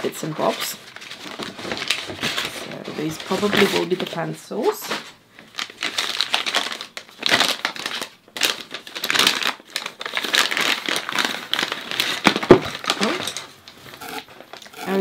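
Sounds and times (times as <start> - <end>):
paper wrapping crumpling: 0.0 - 15.0.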